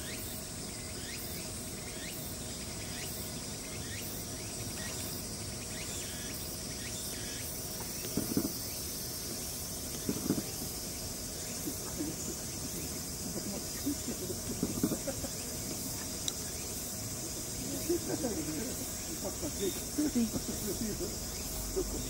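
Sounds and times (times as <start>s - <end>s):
high insect chorus: 0.0s - 22.0s.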